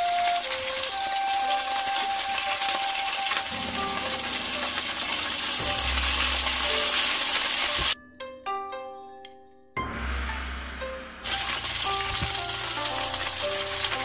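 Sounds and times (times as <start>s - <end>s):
food sizzling in oil: 0.0s - 8.0s, 9.9s - 14.0s.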